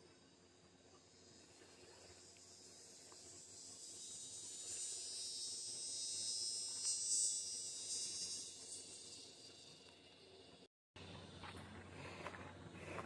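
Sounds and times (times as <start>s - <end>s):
insects trilling: 0.0s - 11.7s.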